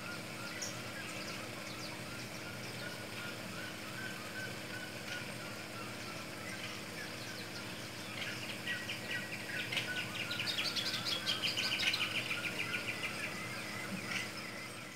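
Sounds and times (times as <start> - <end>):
bird trilling call: 0.0 - 14.6
low background hum: 0.0 - 14.9.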